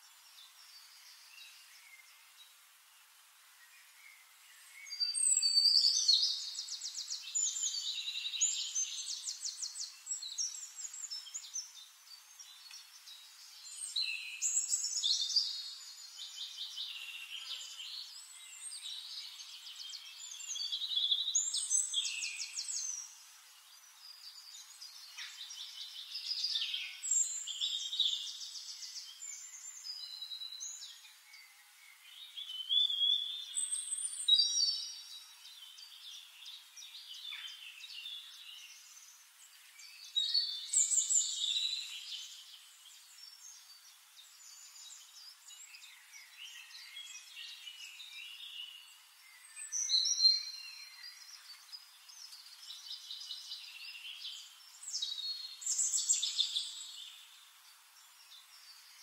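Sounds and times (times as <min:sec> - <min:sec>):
songbird trills and chirps: 0:00.0 - 0:59.0.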